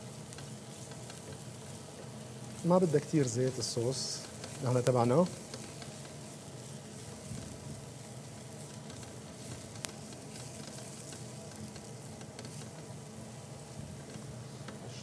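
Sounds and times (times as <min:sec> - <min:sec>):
spatula stirring: 0:00.0 - 0:13.7
garlic sizzling in frying pan: 0:00.0 - 0:15.0.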